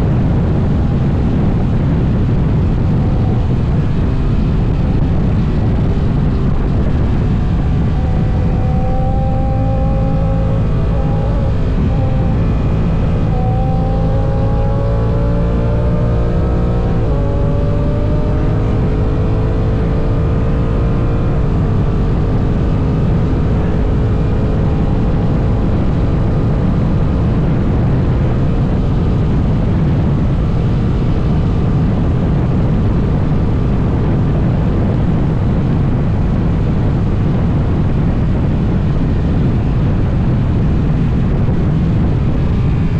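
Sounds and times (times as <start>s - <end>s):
motorcycle engine running: 0.0s - 42.9s
wind rush: 0.0s - 42.9s.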